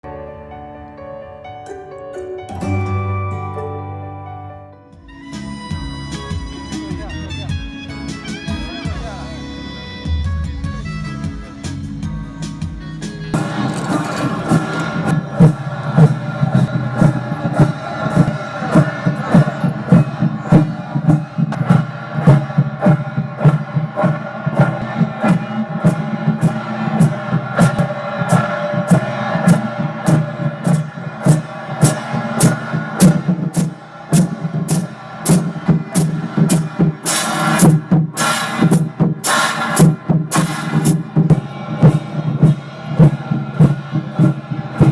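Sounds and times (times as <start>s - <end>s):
background music with drum beat: 5.0s - 44.9s.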